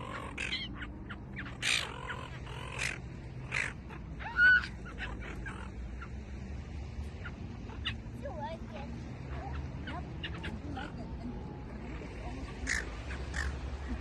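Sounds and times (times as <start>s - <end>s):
gulls squawking: 0.0s - 14.0s.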